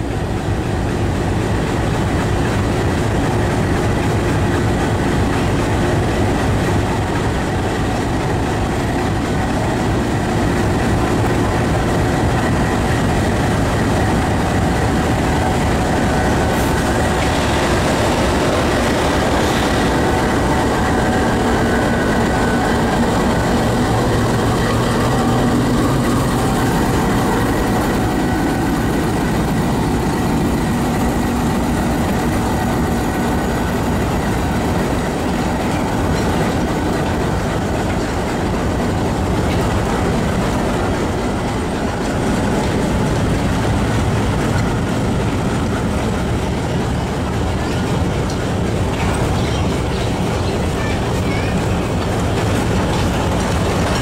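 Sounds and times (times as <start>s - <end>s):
diesel locomotive running: 0.0s - 54.0s
train wheels rolling on rails: 0.0s - 54.0s.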